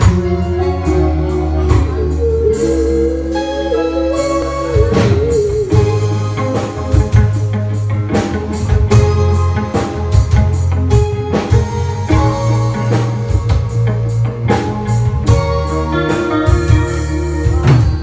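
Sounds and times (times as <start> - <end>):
bass guitar: 0.0 - 18.0
drum kit: 0.0 - 18.0
electric guitar lead melody: 0.0 - 18.0.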